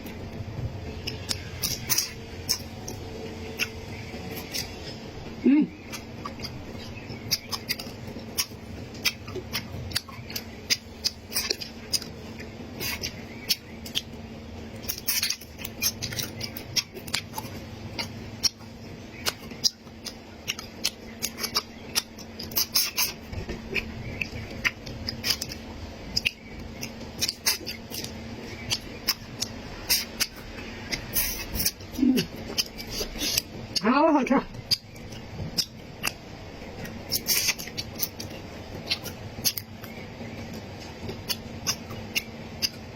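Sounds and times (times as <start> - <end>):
chewing and crunching food: 0.0 - 5.1, 5.7 - 42.9
steady low hum: 0.0 - 42.9.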